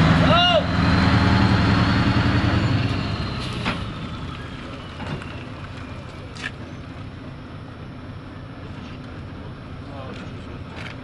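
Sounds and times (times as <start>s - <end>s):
truck diesel engine running: 0.0s - 10.8s.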